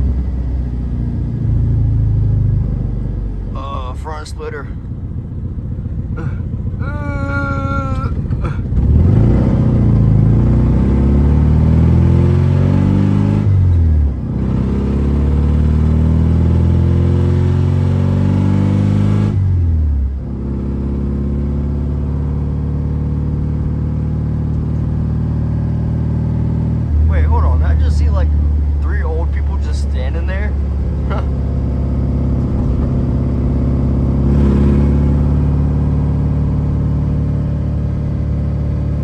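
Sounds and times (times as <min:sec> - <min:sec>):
car engine and exhaust accelerating: 0:00.0 - 0:39.0.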